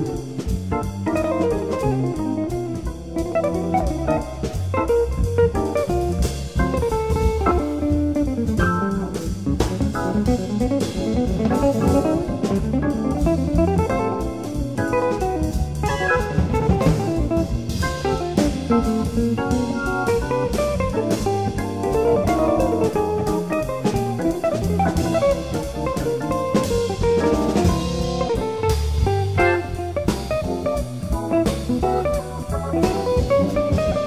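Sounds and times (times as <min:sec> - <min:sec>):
jazz organ trio playing: 0:00.0 - 0:34.0.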